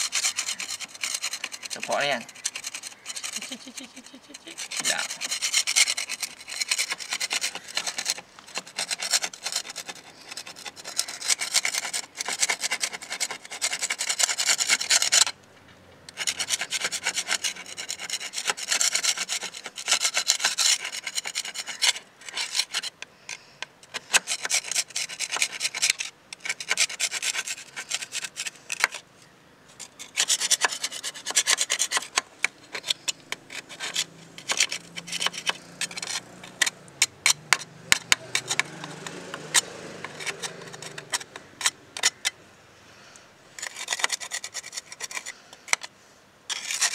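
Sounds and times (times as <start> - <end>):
scraper rasping on metal: 0.0 - 15.4, 16.1 - 29.0, 29.8 - 42.4, 43.6 - 45.9, 46.5 - 46.9.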